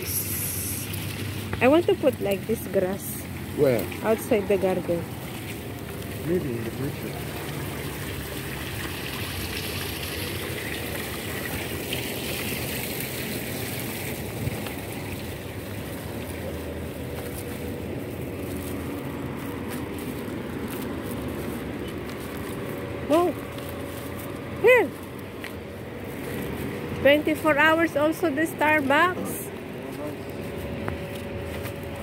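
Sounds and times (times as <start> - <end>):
garden fountain splashing: 0.0 - 29.3.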